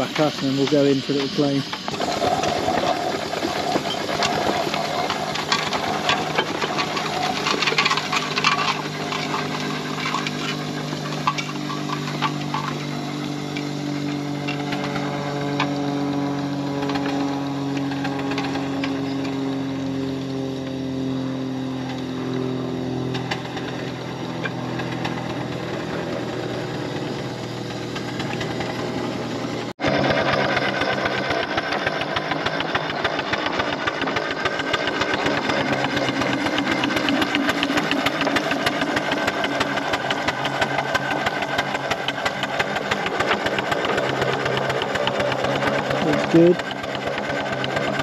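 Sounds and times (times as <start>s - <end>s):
engine motion clatter: 0.0s - 48.0s
steam engine exhaust beats: 0.0s - 48.0s
steam traction engine running: 0.0s - 48.0s.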